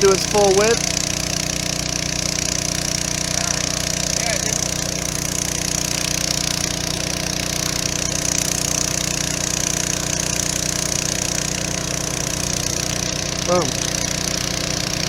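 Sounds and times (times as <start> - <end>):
engine-driven water pump running: 0.0 - 15.0.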